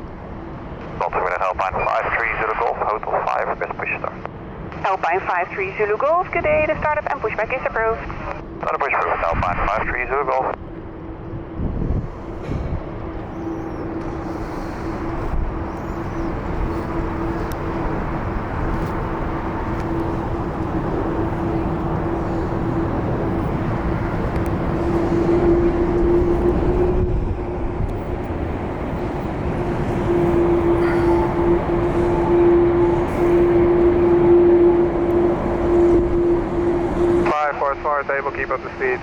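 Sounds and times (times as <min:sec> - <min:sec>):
jet airliner engines running: 0:00.0 - 0:39.0.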